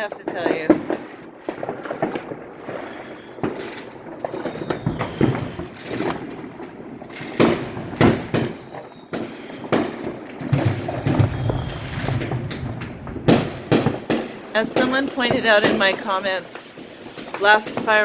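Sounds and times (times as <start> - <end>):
firecrackers crackling: 0.0 - 18.0
firework bangs: 0.0 - 18.0.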